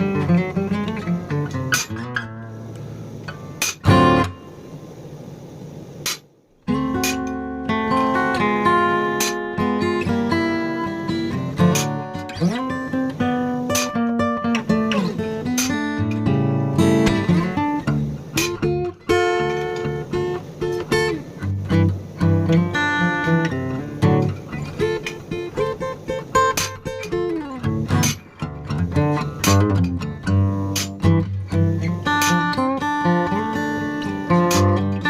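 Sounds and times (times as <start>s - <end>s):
acoustic guitar plucked notes: 0.0s - 4.8s, 6.0s - 35.0s.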